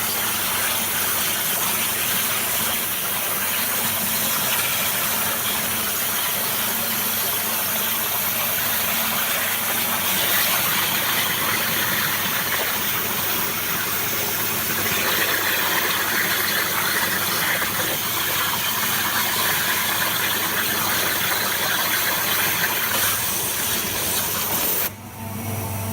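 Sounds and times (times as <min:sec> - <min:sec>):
waterjet hissing rush: 0:02.3 - 0:24.9.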